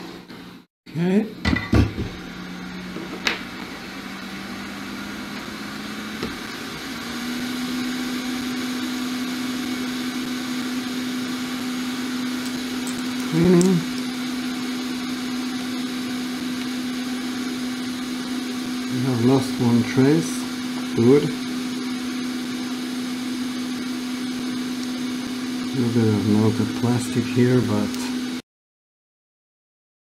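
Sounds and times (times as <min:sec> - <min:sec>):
fan hum: 0:00.0 - 0:28.3
hot air station blowing: 0:02.0 - 0:28.4.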